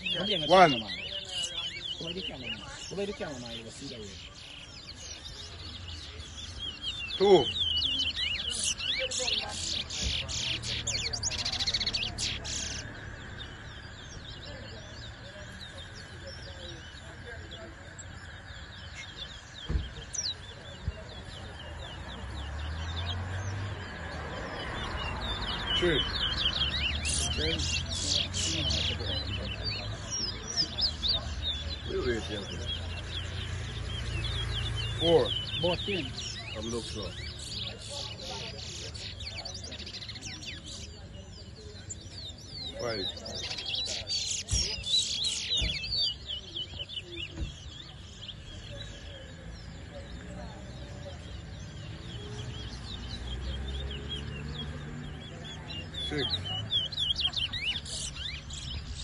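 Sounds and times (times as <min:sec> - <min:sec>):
finches chirping: 0:00.0 - 0:59.0.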